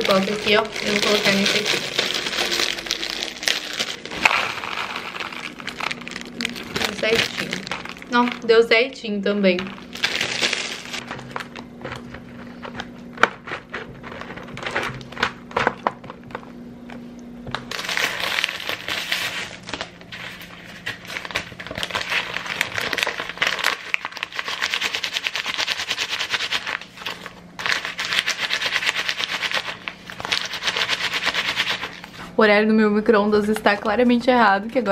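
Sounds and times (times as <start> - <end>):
dry snacks clicking and rustling: 0.0 - 8.5, 9.6 - 16.4, 17.7 - 32.1
snack packet crinkling: 0.0 - 8.5, 9.6 - 16.3, 17.7 - 32.1.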